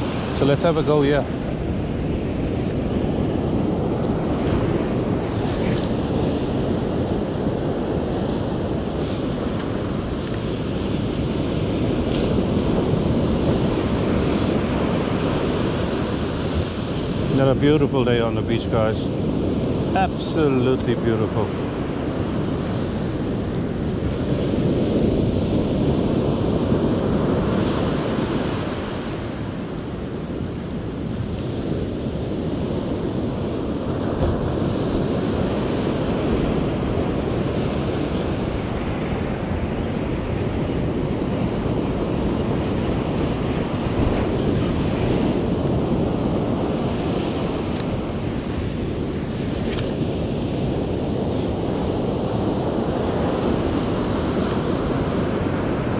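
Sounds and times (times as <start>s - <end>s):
waves breaking on beach: 0.0s - 55.9s
wind buffeting microphone: 0.0s - 55.9s.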